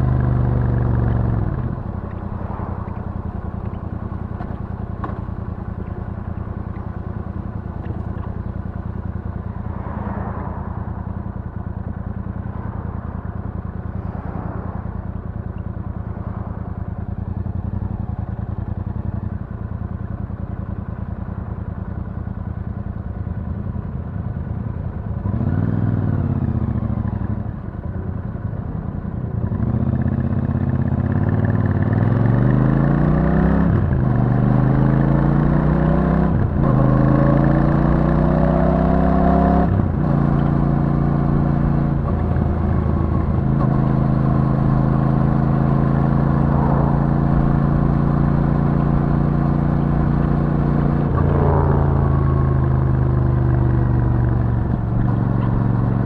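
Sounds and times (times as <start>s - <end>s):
motorcycle engine revving: 0.0s - 22.7s, 24.3s - 56.0s.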